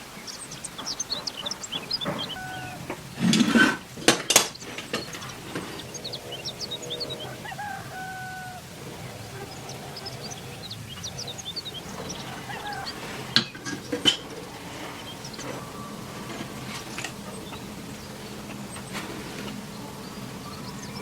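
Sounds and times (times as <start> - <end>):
noisy burst: 0.0 - 21.0
small birds chirping: 0.0 - 21.0
rooster crowing: 0.1 - 3.7, 4.9 - 18.9.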